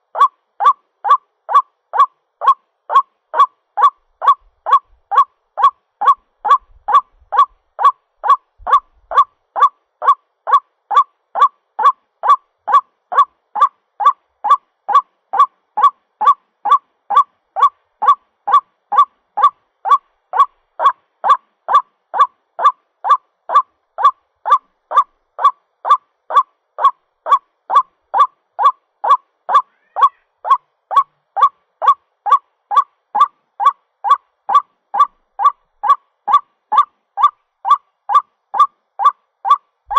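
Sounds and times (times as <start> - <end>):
waterhen calling: 0.0 - 39.6.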